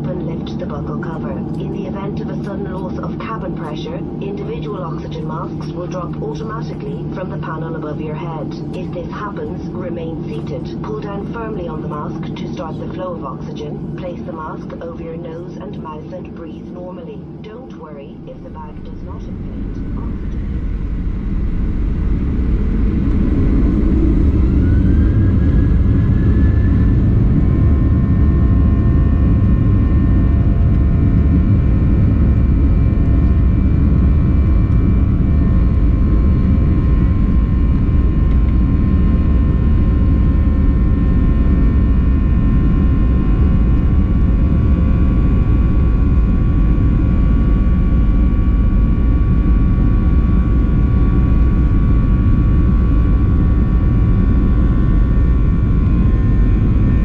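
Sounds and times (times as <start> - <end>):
jet engine whine: 0.0 - 57.0
jet engines rumbling: 0.0 - 57.0.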